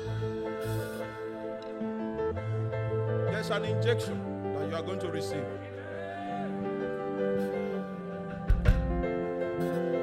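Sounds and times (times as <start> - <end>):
soft music of sustained chords: 0.0 - 10.0.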